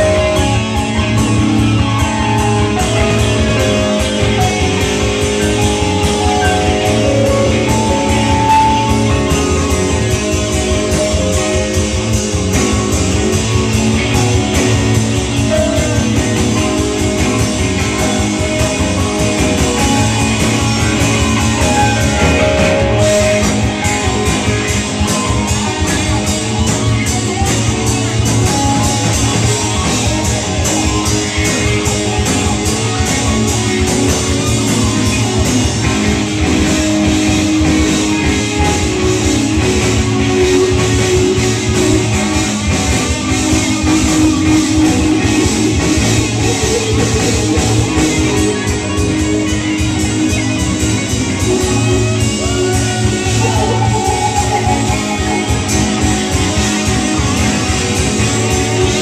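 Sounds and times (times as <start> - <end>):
drums: 0.0 - 59.0
electric guitar: 0.0 - 59.0
keyboard: 0.0 - 59.0.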